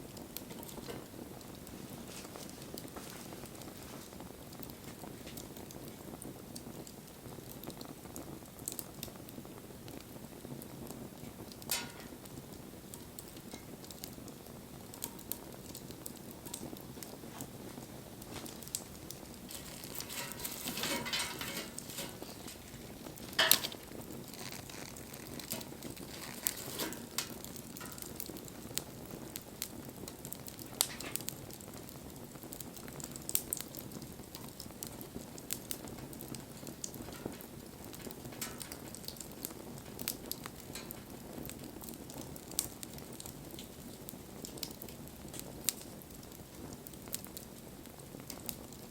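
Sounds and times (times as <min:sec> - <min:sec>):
campfire crackling and popping: 0:00.0 - 0:48.9
fire hissing: 0:00.0 - 0:48.9.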